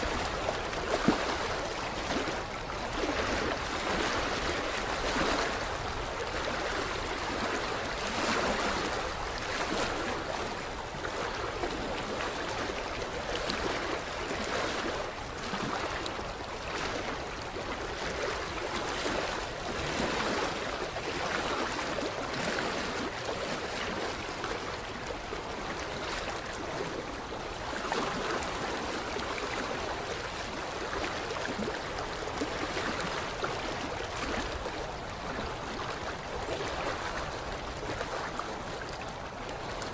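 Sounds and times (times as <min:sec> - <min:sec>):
ripples lapping at shoreline: 0:00.0 - 0:39.9.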